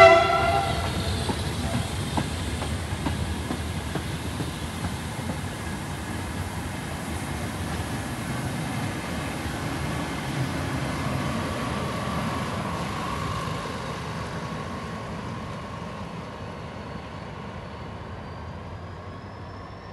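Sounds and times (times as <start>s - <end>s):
train rolling past on rails: 0.0s - 19.9s.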